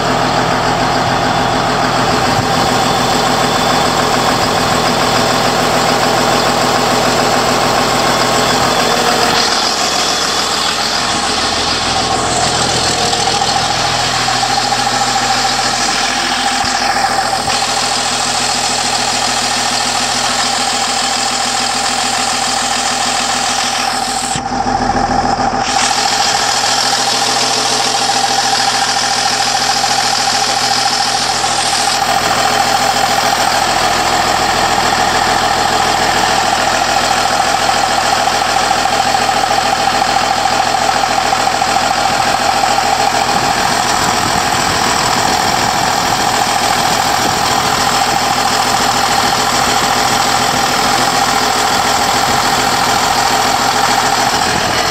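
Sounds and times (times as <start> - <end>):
diesel engine running: 0.0 - 54.9
steady whine: 0.0 - 54.9.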